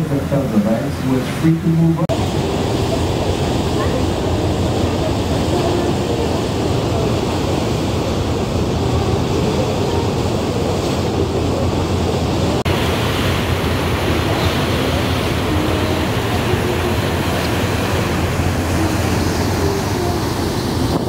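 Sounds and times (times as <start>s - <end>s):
boat engine rumble: 0.0s - 21.0s
rushing water: 0.0s - 21.0s
wake water hissing along hull: 0.0s - 21.0s
wind on microphone: 2.1s - 21.0s.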